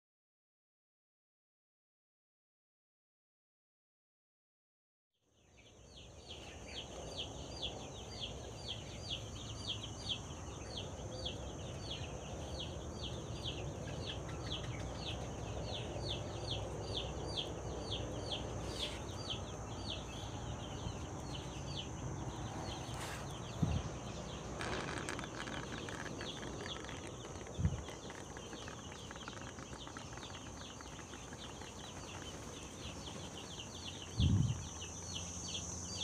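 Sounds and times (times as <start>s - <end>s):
chicks peeping: 5.9s - 36.0s.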